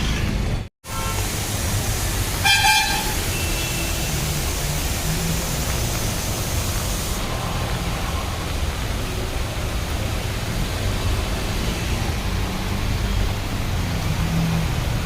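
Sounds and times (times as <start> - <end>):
floodwater rushing: 0.9 - 15.0.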